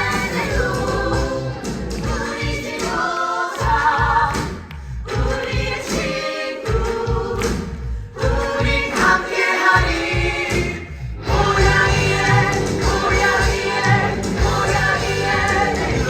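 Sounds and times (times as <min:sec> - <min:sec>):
backing music with low beat: 0:00.0 - 0:16.0
group of voices singing: 0:00.0 - 0:16.0.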